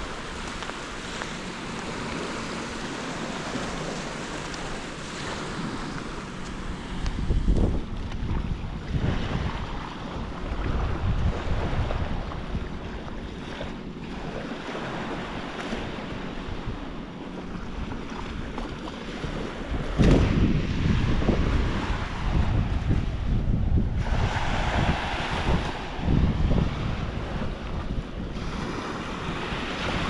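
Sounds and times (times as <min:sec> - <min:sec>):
surf washing on shore: 0:00.0 - 0:30.0
wind buffeting microphone: 0:00.0 - 0:30.0.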